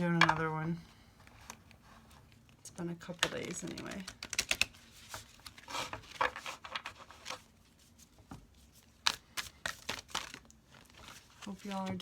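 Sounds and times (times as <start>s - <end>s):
soft rustling at a desk: 0.8s - 4.1s, 4.7s - 12.0s.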